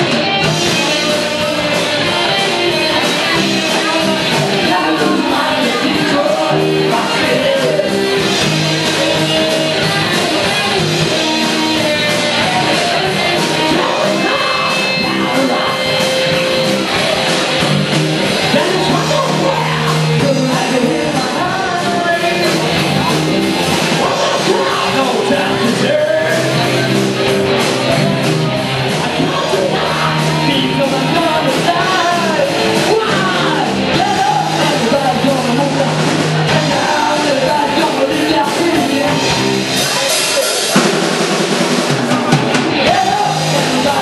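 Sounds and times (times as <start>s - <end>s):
person singing: 0.0s - 40.8s, 41.9s - 44.0s
live rock band playing: 0.0s - 44.0s.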